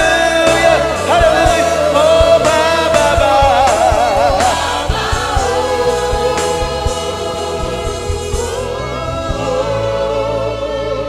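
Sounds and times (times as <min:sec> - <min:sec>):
drum beat: 0:00.0 - 0:09.6
band playing chords and bass: 0:00.0 - 0:11.0
choir singing held notes: 0:00.0 - 0:11.0.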